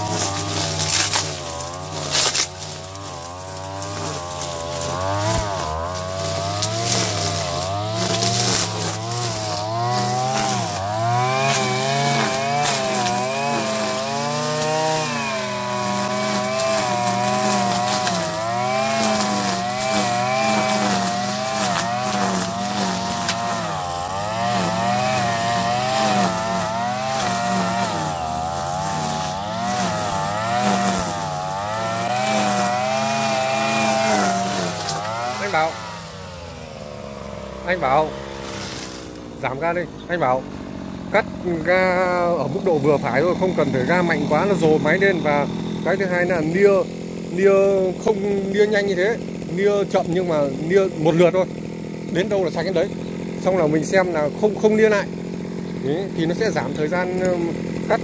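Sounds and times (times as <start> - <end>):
brush cutter running: 0.0 - 58.0
trimmer line whirring through grass: 0.0 - 58.0.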